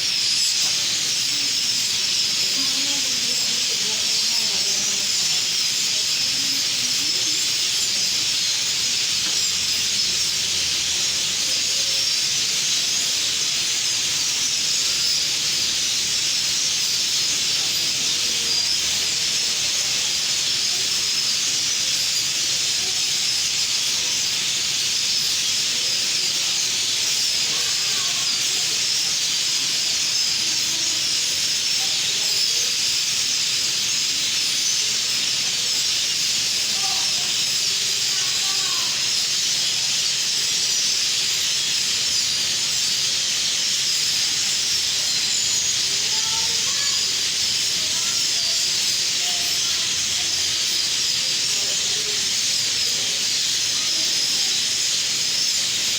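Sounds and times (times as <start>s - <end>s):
flock of birds chirping: 0.0s - 55.9s.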